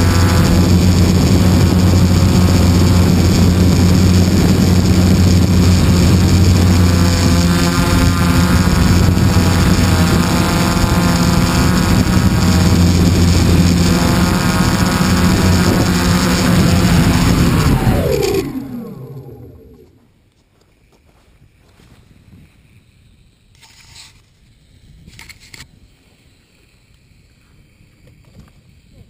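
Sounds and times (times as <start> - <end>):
model airplane motor droning: 0.0 - 20.1, 22.5 - 29.0.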